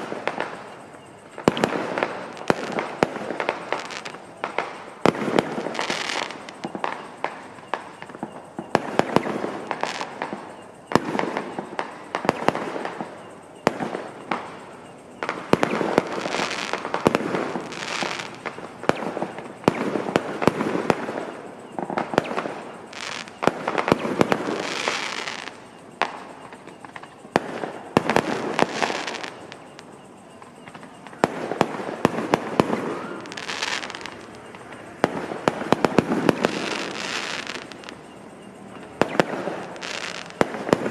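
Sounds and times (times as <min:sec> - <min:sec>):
fireworks banging: 0:00.0 - 0:40.9
fireworks hissing crackle: 0:00.0 - 0:40.9.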